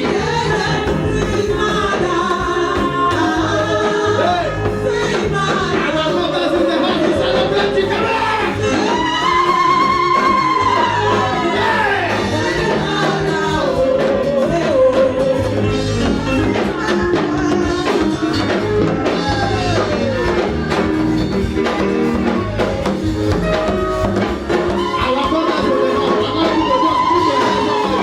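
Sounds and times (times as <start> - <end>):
band with bass and percussion: 0.0 - 28.0
worship singing: 0.0 - 28.0.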